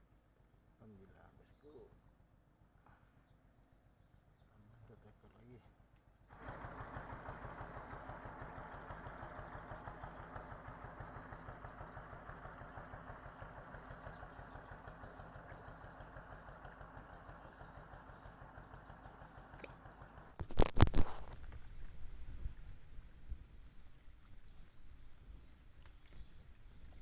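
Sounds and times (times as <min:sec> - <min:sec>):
motorboat engine running: 0:04.6 - 0:27.0.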